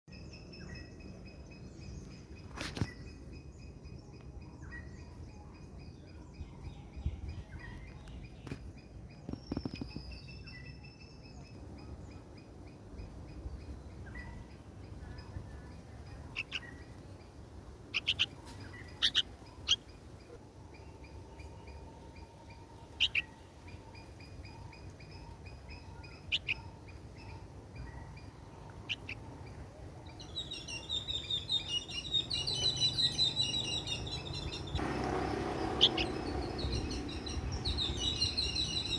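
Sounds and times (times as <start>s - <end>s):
bird chirping: 0.1s - 38.9s.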